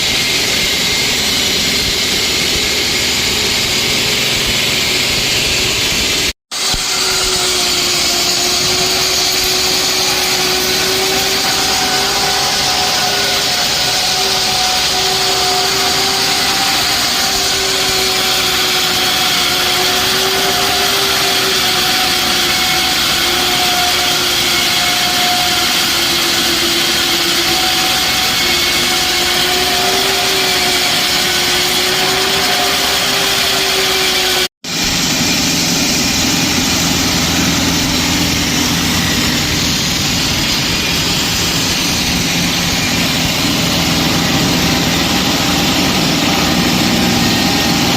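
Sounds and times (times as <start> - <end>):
concrete cutter whining: 0.0 - 47.9
lower-pitched machine running: 0.0 - 47.9.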